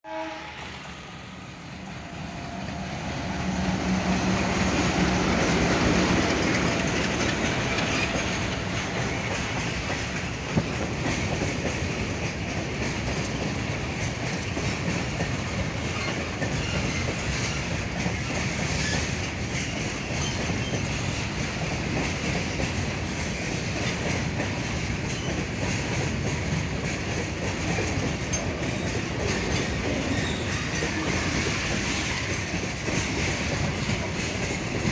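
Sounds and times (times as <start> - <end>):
diesel locomotive engine hum: 0.1 - 34.9
wagons clickety-clack on rails: 1.7 - 34.9.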